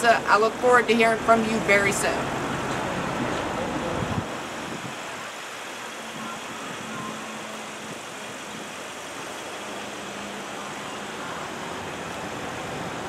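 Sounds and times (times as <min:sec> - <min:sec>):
even outdoor hiss: 0:00.0 - 0:13.0.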